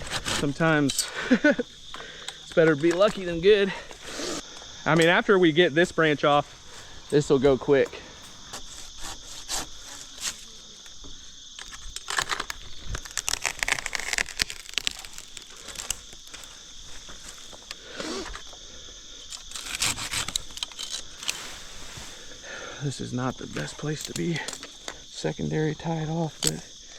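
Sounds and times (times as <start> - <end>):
rustling crackling and scraping: 0.0 - 22.5
crickets chirring: 0.0 - 26.9.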